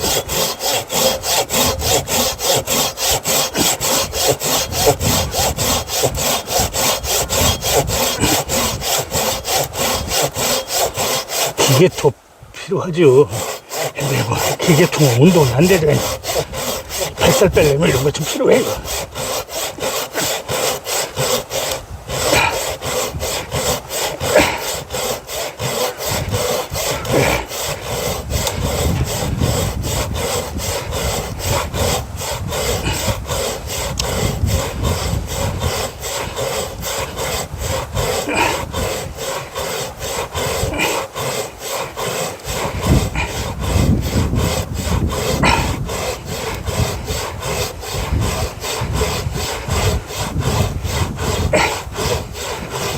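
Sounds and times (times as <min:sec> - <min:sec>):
hand saw cutting log: 0:00.0 - 0:52.9.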